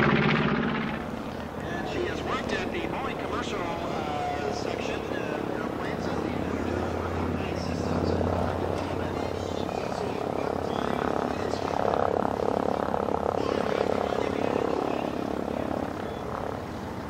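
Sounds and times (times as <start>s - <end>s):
propeller plane engines droning: 0.0s - 17.0s.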